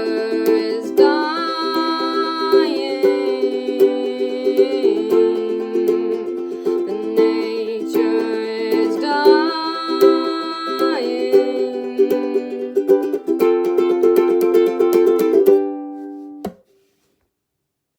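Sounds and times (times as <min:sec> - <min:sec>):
ukulele strumming chords: 0:00.0 - 0:16.6.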